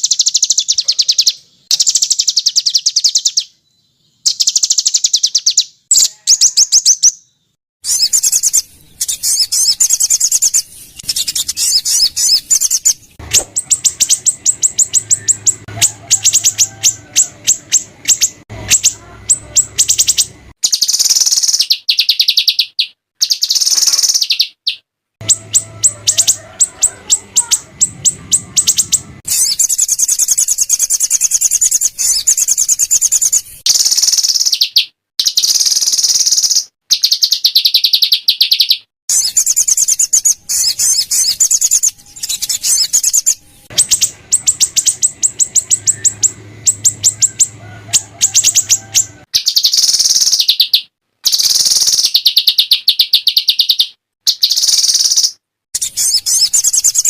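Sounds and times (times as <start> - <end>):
songbirds sharp rapid calls: 0.0 - 57.0.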